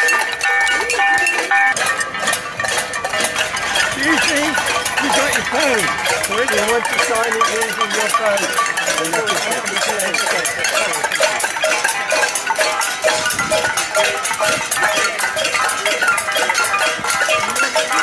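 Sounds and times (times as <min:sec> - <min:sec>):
pots and pans banging: 0:00.0 - 0:18.0.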